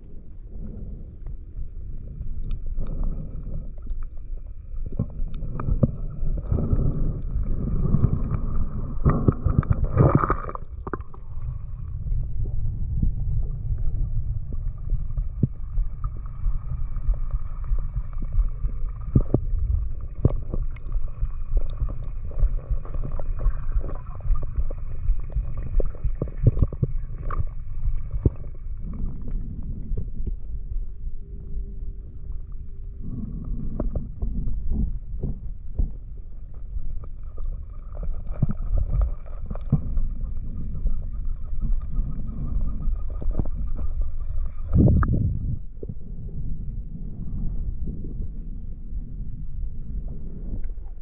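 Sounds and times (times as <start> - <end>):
underwater water rumble: 0.0 - 51.0
clicks and gurgles: 2.1 - 30.4, 33.0 - 46.2.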